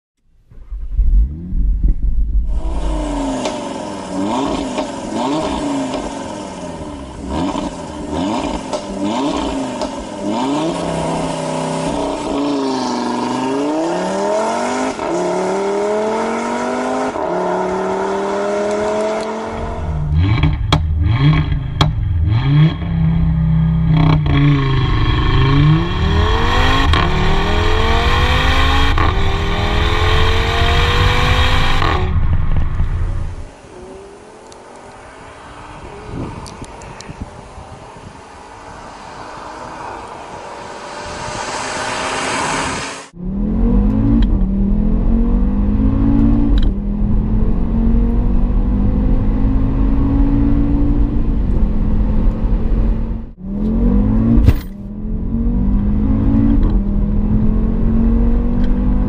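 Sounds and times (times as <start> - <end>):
low road and wind rumble: 0.2 - 59.0
car engine revving: 0.4 - 59.0.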